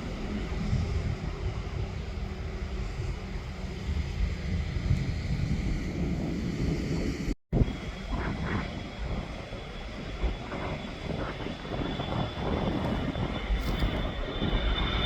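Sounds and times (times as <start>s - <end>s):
aircraft engines running: 0.0s - 15.0s
wind on microphone: 0.0s - 15.0s.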